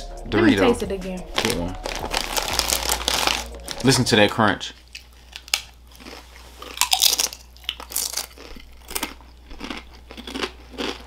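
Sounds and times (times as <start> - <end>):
tortilla chips crunching: 1.4 - 4.0, 4.8 - 11.0.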